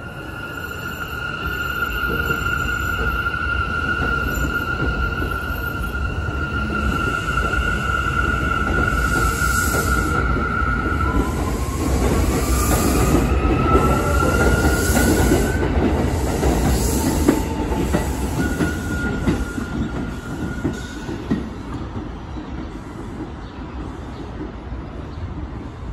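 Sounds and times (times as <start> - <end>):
subway train rumble: 0.0 - 25.9.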